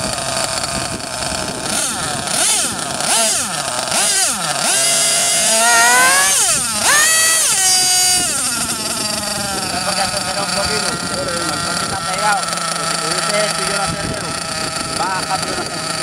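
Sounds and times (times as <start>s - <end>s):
small two-stroke engine revving: 0.0s - 16.0s.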